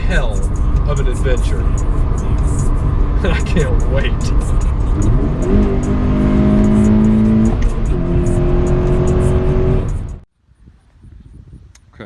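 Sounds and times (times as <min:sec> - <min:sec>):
car engine: 0:00.0 - 0:10.3.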